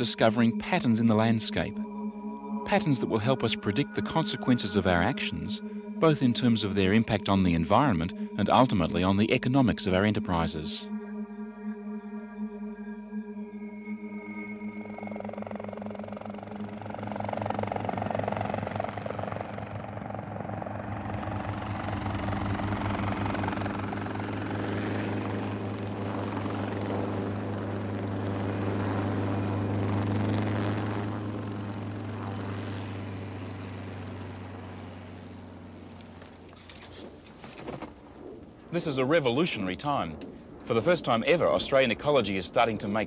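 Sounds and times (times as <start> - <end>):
helicopter engine drone: 0.0 - 43.0
helicopter rotor beating: 0.0 - 43.0.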